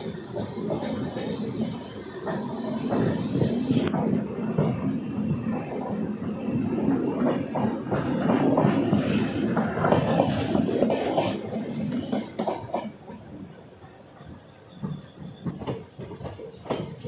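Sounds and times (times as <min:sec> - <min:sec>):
train coaches rushing past: 0:00.0 - 0:17.0
train wheels clicking over rail joints: 0:00.0 - 0:17.0.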